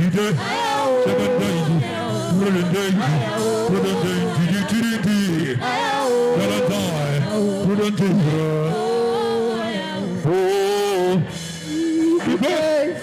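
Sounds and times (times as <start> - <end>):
people singing worship music: 0.0 - 13.0
steady musical accompaniment: 0.2 - 13.0.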